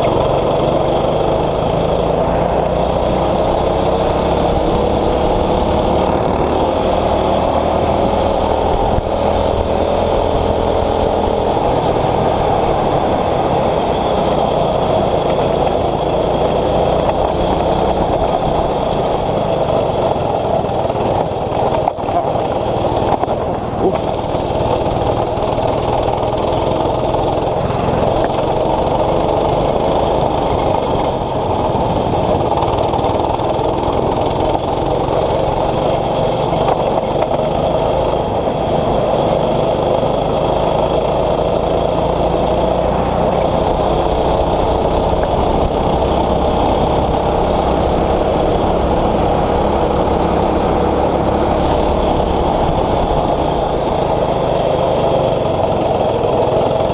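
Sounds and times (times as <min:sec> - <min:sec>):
kart engine running: 0:00.0 - 0:56.9.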